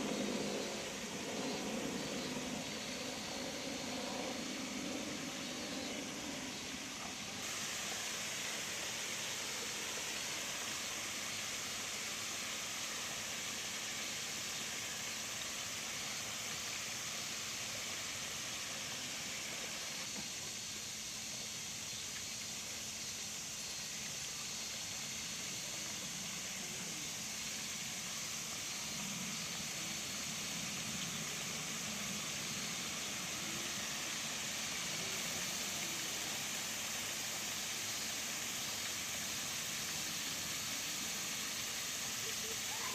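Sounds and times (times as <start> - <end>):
steady high-pitched hiss: 0.0 - 42.9.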